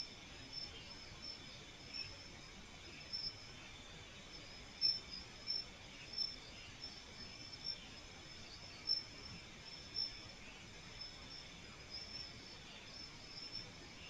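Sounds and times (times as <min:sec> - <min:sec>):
crickets chirping: 0:00.0 - 0:14.0
steady insect buzz: 0:00.0 - 0:14.0.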